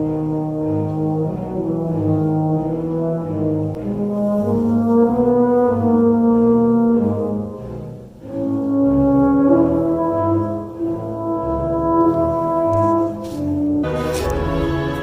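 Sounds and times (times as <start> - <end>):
orchestra with brass chords: 0.0 - 15.0.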